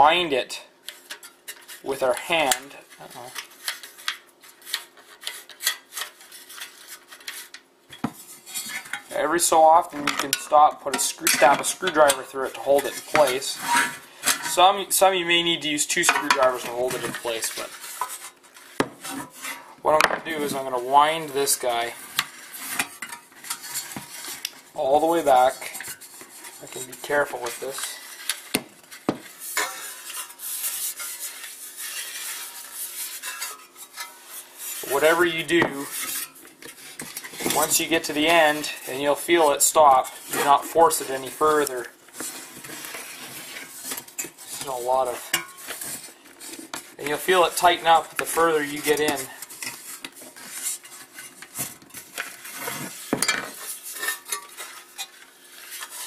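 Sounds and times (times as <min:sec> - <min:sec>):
recoil starter scraping rub: 0:08.3 - 0:56.0.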